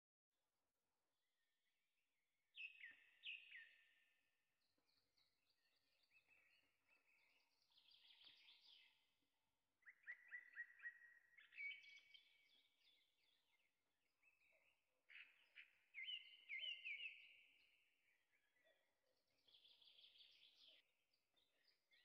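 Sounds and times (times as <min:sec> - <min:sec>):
faint bird song: 0:00.4 - 0:22.0.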